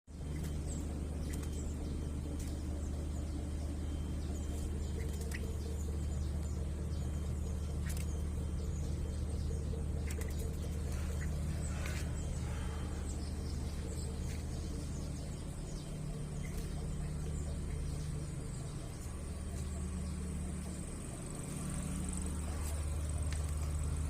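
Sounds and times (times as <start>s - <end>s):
low mechanical hum: 0.1s - 24.0s.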